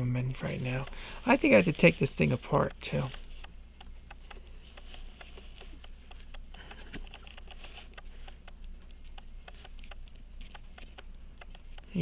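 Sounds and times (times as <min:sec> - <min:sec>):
pocket watch ticking: 0:00.0 - 0:12.0.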